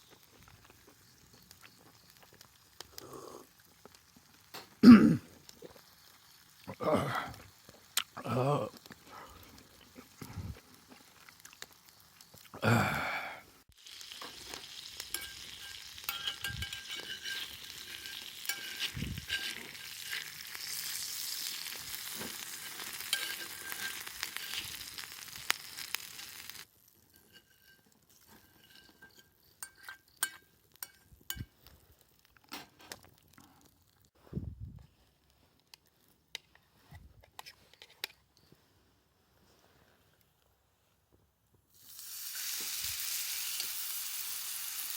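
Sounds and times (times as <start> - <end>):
meat sizzling in hot fat: 0.0 - 34.1, 41.7 - 44.9.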